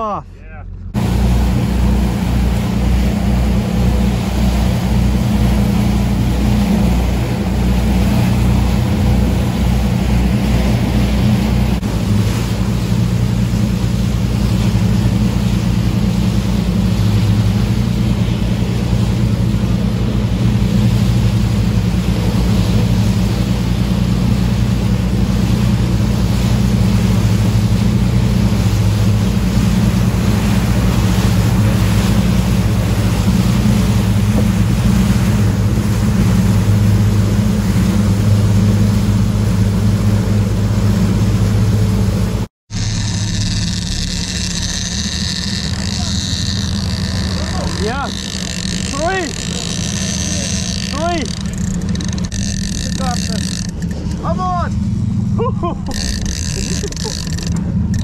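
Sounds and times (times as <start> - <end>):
boat engine drone: 0.0 - 58.0
water churning in wake: 0.0 - 58.0.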